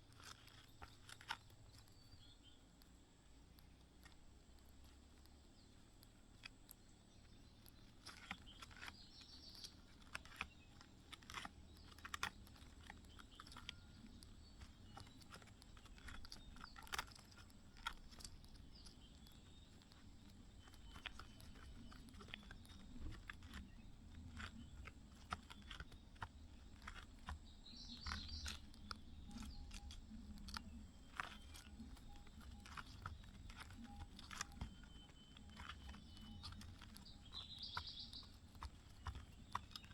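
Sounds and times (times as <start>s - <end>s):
birds rustling in a nest: 0.0s - 39.9s.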